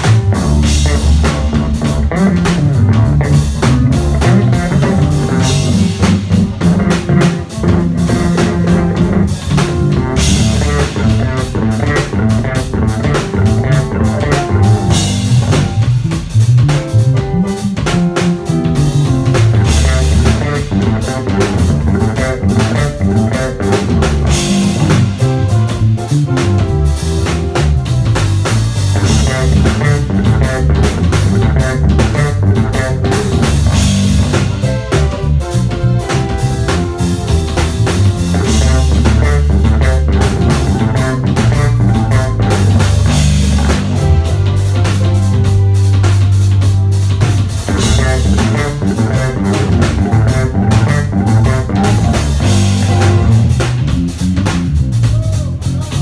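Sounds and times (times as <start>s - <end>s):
drum kit: 0.0s - 56.0s
electric bass guitars: 0.0s - 56.0s.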